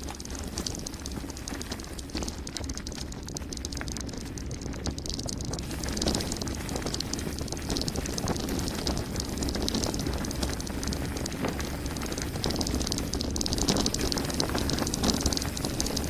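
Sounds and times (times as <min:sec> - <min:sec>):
gravel and bike rattles: 0:00.0 - 0:16.0
rumble of wind and tyres: 0:00.0 - 0:16.0.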